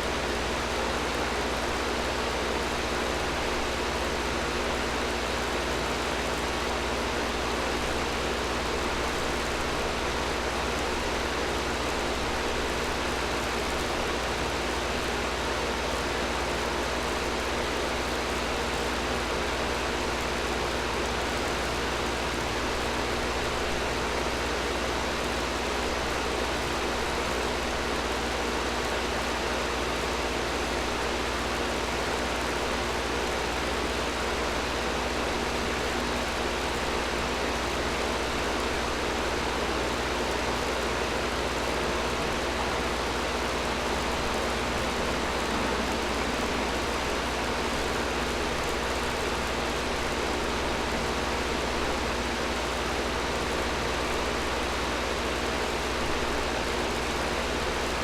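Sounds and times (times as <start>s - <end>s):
air conditioner running: 0.0s - 58.0s.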